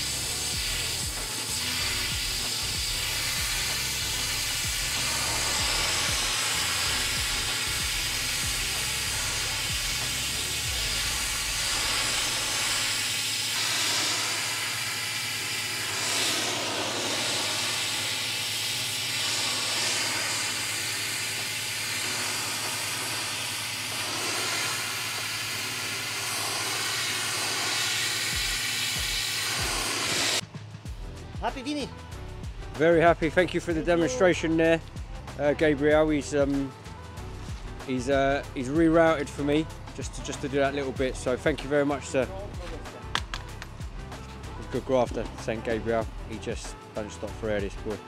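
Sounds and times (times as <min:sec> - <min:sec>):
steam cleaner hissing: 0:00.0 - 0:30.4, 0:32.7 - 0:48.0.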